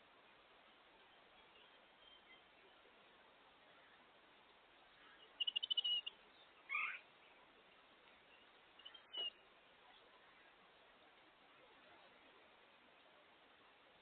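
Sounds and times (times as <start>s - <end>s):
songbirds calling: 0.0s - 13.2s.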